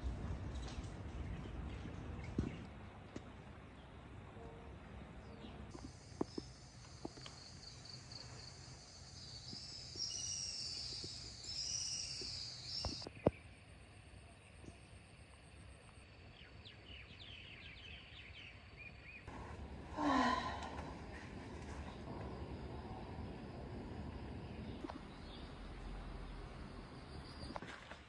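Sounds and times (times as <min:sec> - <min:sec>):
birds chirping: 0:00.0 - 0:02.7, 0:05.2 - 0:13.6, 0:16.3 - 0:28.0.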